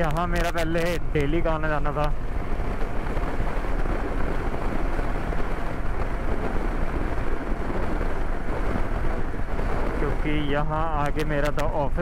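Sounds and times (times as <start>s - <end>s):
motorcycle road noise: 0.0s - 12.0s
wind buffeting microphone: 0.0s - 12.0s.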